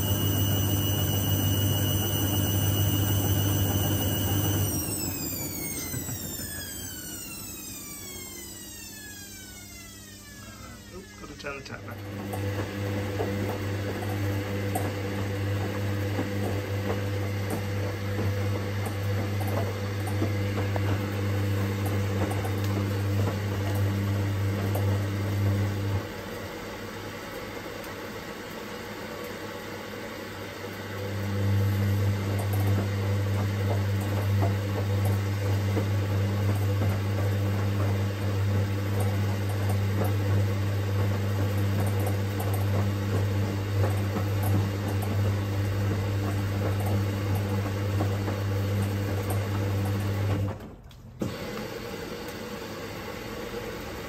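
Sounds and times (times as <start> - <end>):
washing machine electrical hum: 0.0 - 54.0.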